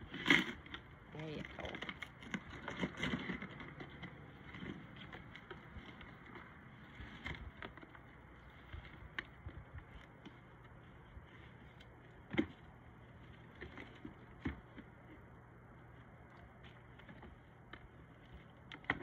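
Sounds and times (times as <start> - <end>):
cardboard crinkling and crackling: 0.0 - 19.0.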